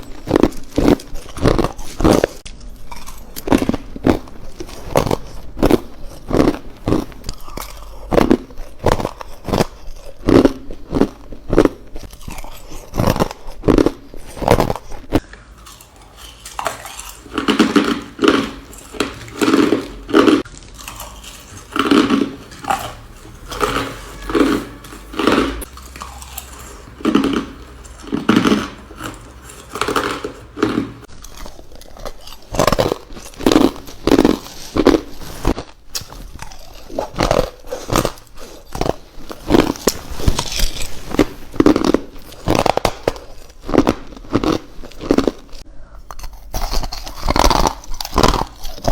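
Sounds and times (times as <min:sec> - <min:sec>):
person crunching ice cubes: 0:00.0 - 0:48.9.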